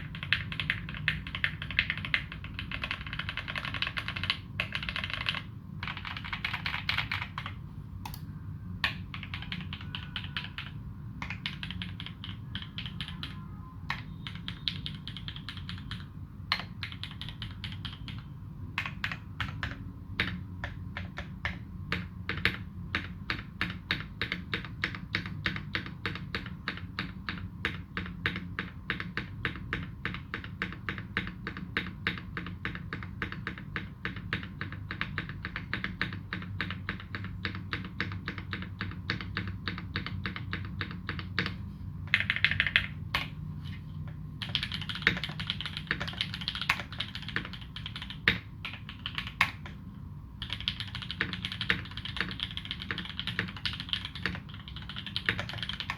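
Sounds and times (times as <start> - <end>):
mechanical keyboard typing: 0.0 - 8.2, 8.8 - 49.8, 50.4 - 55.9.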